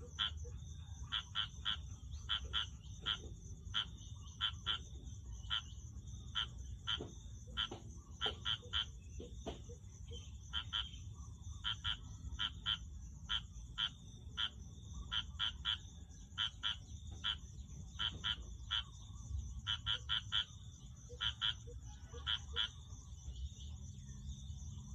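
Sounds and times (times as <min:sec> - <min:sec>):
frogs croaking: 0:00.0 - 0:24.9.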